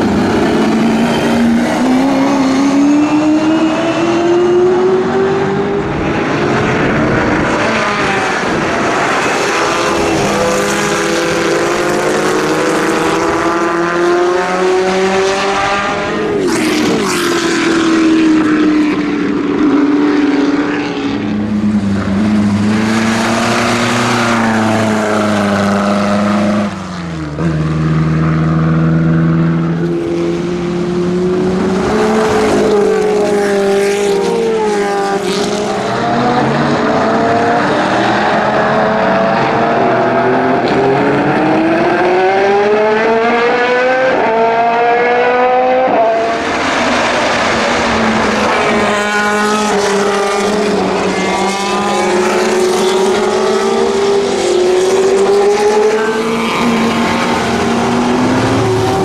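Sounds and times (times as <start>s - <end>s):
race cars passing at speed: 0.0s - 59.0s.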